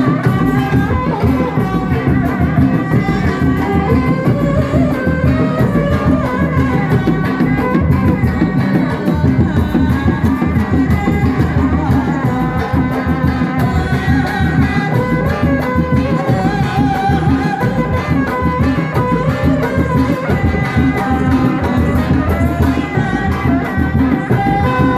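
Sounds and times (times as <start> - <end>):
fast drum rhythm: 0.0 - 24.9
wavering melody line: 0.0 - 24.9.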